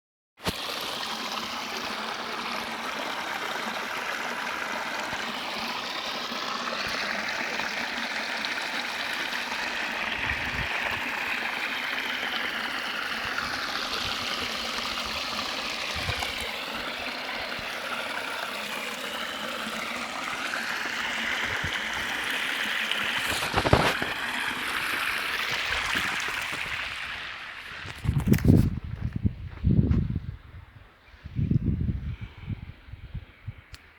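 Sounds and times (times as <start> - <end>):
flowing water: 0.4 - 28.7.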